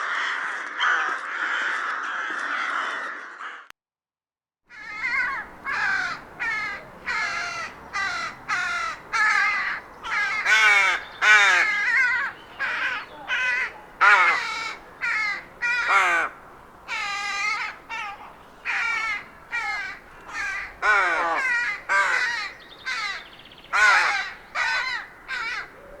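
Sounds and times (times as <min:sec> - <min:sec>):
rook cawing: 0:04.7 - 0:26.0.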